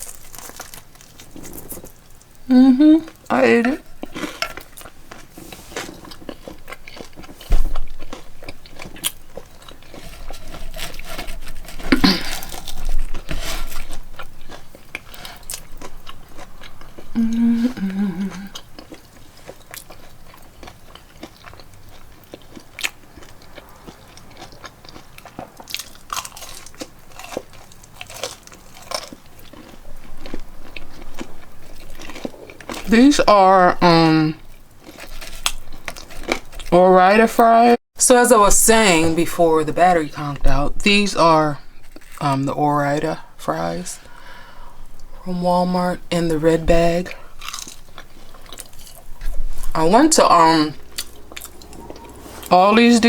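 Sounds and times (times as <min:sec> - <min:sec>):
chewing crunchy food: 0:00.0 - 0:33.6, 0:34.4 - 0:36.8, 0:41.6 - 0:45.2, 0:46.2 - 0:53.0.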